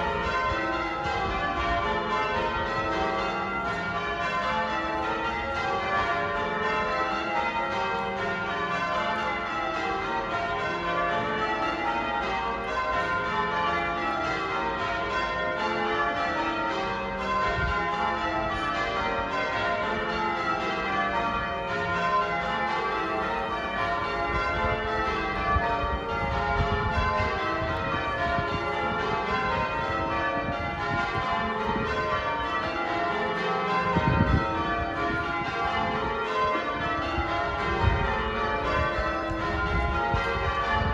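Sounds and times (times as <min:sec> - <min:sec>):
church bells change ringing: 0:00.0 - 0:40.9.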